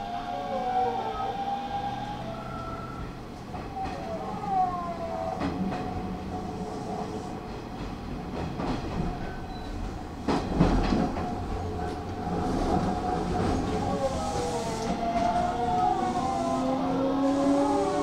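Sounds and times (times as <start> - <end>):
electric train rumble with whine: 0.0 - 18.0.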